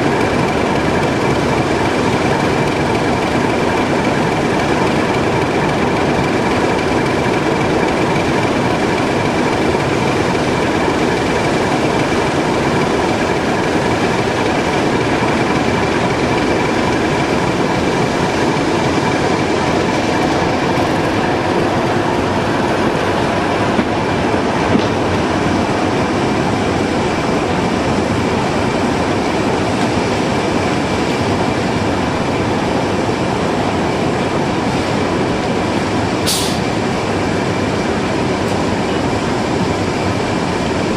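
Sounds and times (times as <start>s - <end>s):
diesel engine running: 0.0s - 40.9s
high whine: 0.0s - 40.9s.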